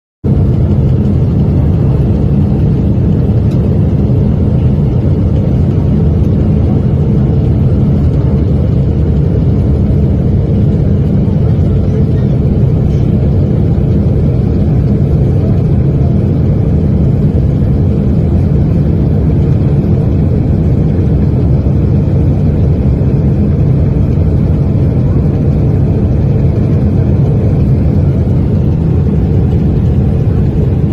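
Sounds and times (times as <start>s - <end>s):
aircraft engine roar: 0.2s - 30.9s.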